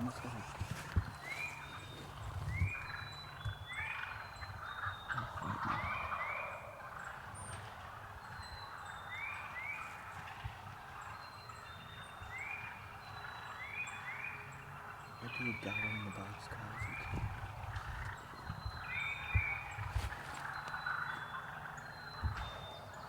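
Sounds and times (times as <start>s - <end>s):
frogs peeping in chorus: 0.0s - 23.0s.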